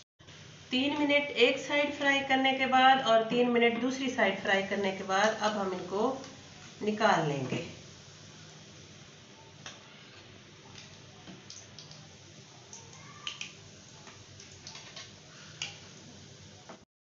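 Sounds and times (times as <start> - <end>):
faint oil sizzle: 0.2 - 16.8.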